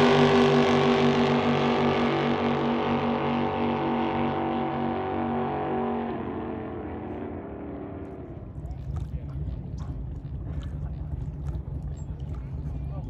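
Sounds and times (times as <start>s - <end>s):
drag boat engines droning: 0.0s - 13.0s.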